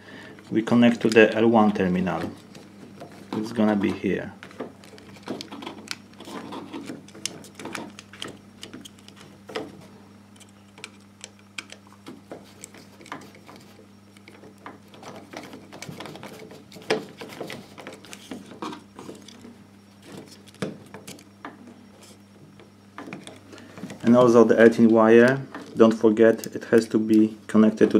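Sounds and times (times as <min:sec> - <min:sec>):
steady low hum: 0:00.0 - 0:27.9
wires and metal plate handled: 0:00.4 - 0:27.9.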